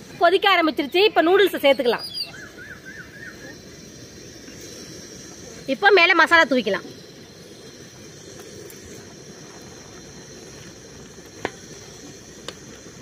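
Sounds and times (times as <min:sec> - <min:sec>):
pot boiling and bubbling: 0:00.0 - 0:13.0.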